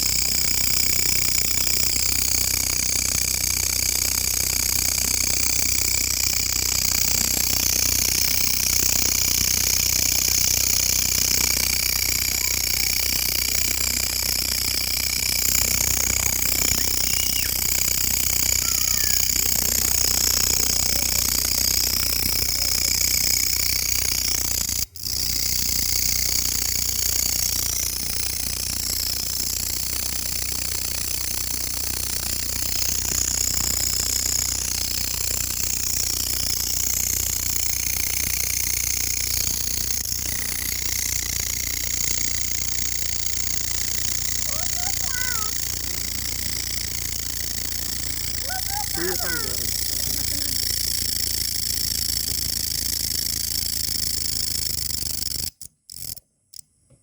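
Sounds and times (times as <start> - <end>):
grasshopper buzzing trill: 0.0 - 56.7.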